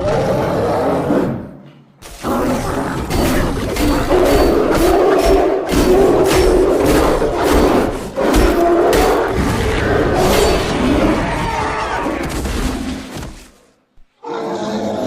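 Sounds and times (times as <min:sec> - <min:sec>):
creature growling roar: 0:00.0 - 0:01.5, 0:02.2 - 0:12.3, 0:14.2 - 0:15.0.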